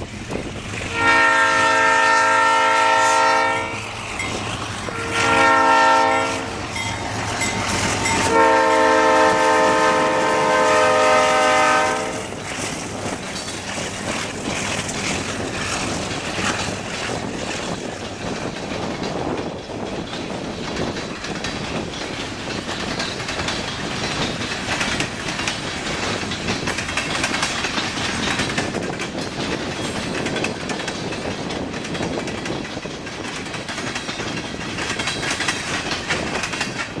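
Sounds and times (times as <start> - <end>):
train wheels clacking on rails: 0.0 - 37.0.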